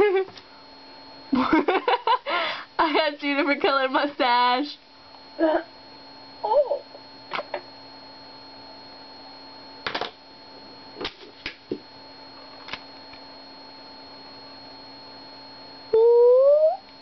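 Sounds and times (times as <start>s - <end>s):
faint electronic whine and hum: 0.0s - 17.0s.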